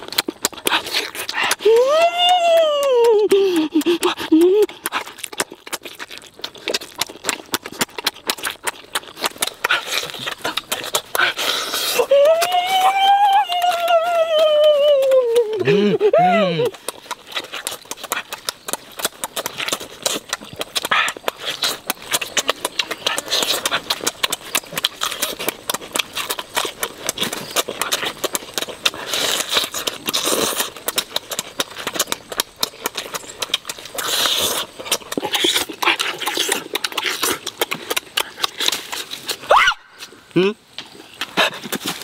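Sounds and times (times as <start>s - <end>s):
chewing and lip-smacking: 0.0s - 42.0s.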